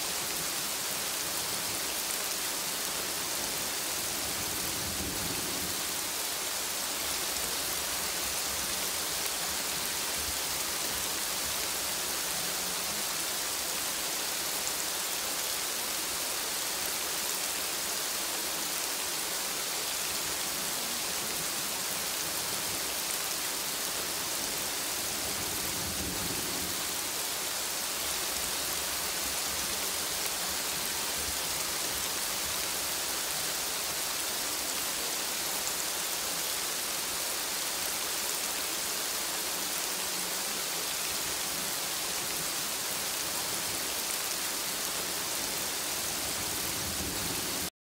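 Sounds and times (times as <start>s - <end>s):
rain falling: 0.0s - 47.7s.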